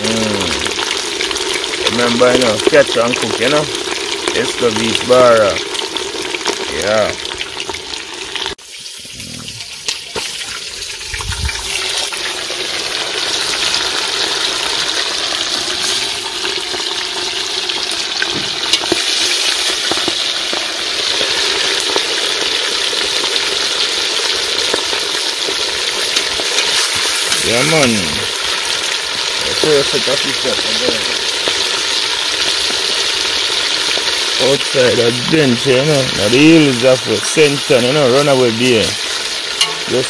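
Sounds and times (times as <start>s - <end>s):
fish sizzling in hot oil: 0.0s - 40.0s
oil popping: 0.0s - 40.0s.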